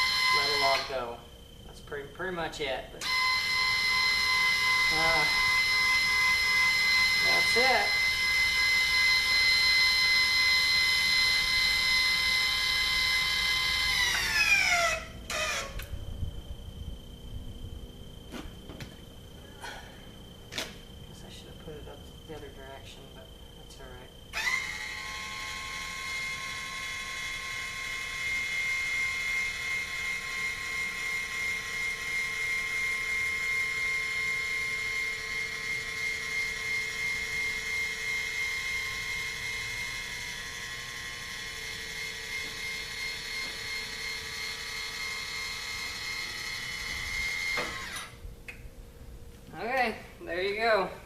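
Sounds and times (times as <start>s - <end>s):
motor and gear whine: 0.0s - 49.8s.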